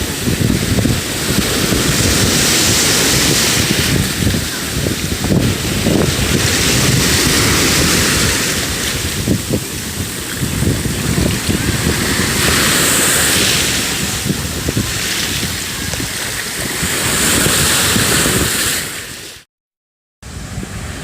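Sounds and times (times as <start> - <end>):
small waves washing onto beach: 0.0 - 19.5, 20.3 - 21.0
wind gusting on microphone: 0.0 - 19.5, 20.2 - 21.0.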